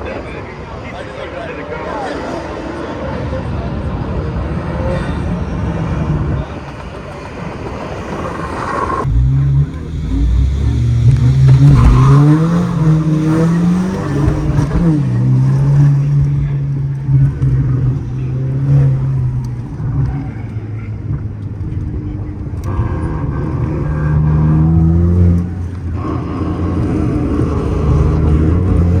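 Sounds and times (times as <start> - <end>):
car engine accelerating hard: 5.6 - 29.0.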